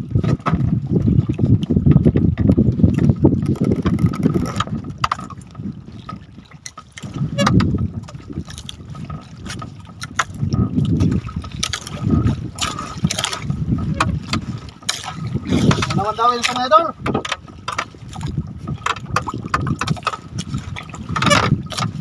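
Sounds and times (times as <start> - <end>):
wind: 0.0 - 22.0
low rumbling water surges: 1.0 - 22.0.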